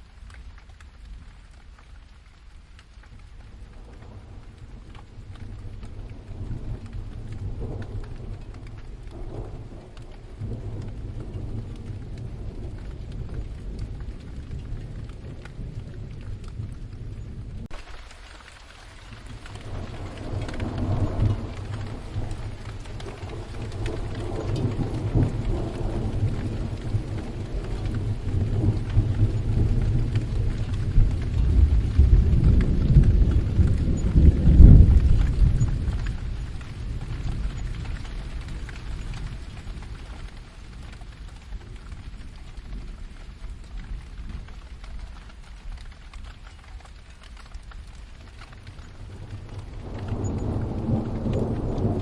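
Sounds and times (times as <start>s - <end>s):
steady rain: 0.0s - 52.0s
thunder rolling: 3.5s - 18.2s, 19.0s - 46.1s, 47.2s - 52.0s.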